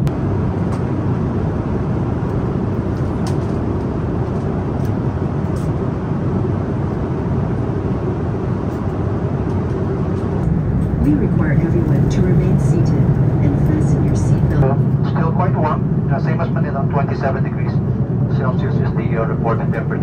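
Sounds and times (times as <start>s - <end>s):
airliner cabin noise: 0.0s - 20.0s.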